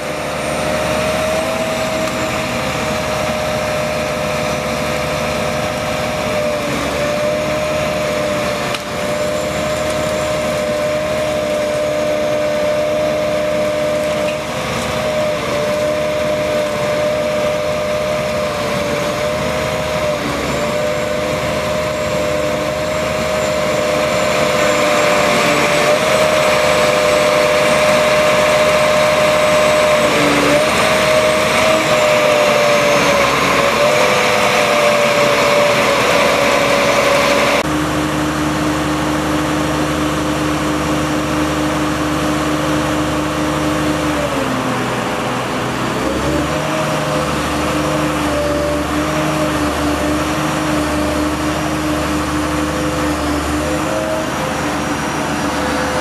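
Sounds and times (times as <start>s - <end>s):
crane mechanical whine: 0.0s - 56.0s
engine running: 0.0s - 56.0s.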